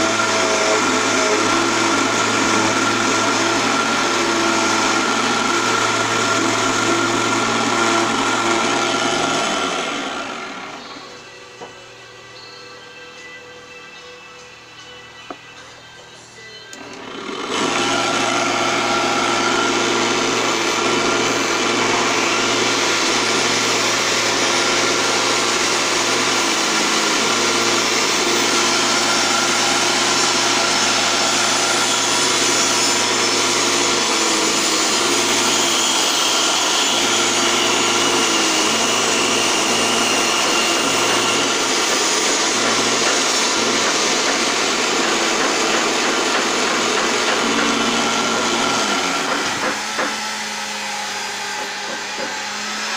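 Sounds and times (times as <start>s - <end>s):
lathe motor whine: 0.0s - 52.9s.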